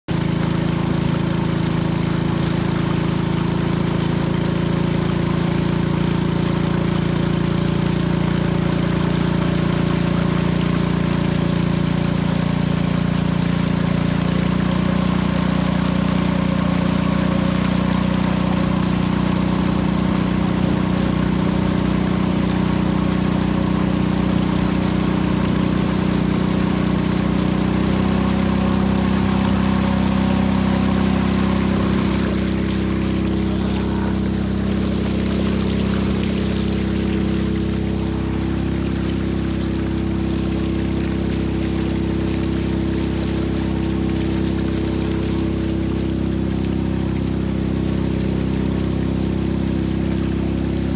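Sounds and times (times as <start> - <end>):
boat motor droning: 0.1 - 50.9.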